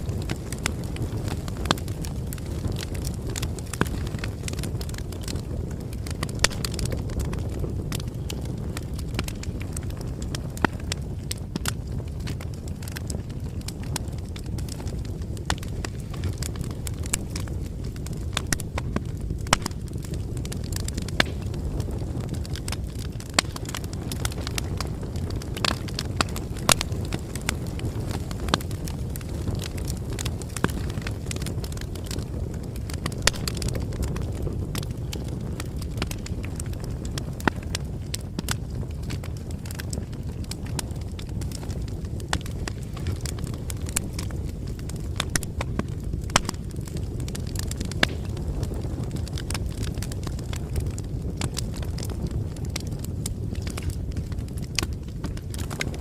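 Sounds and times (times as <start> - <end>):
bonfire crackling: 0.0 - 56.0
fire low rumble: 0.0 - 56.0.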